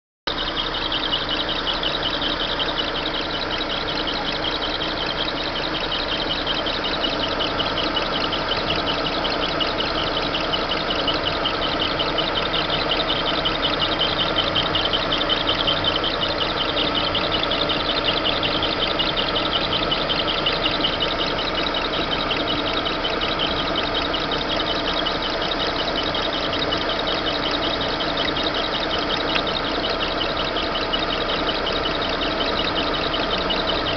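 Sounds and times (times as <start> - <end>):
car engine idling: 0.3 - 33.9
drive belt fluttering noise: 0.3 - 33.9.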